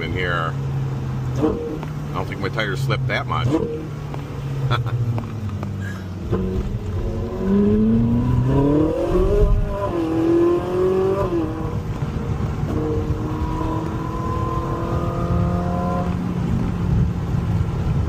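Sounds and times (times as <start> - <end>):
low road rumble: 0.0 - 18.0
car engine accelerating: 0.6 - 18.0.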